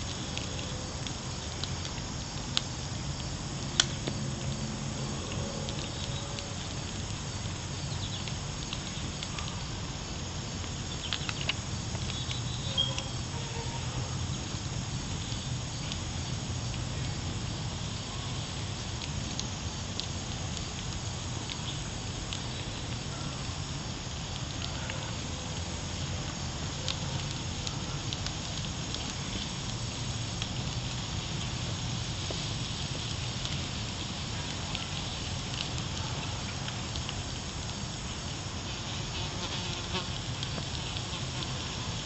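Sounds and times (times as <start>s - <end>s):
charcoal grill crackling and sizzling: 0.0s - 42.0s.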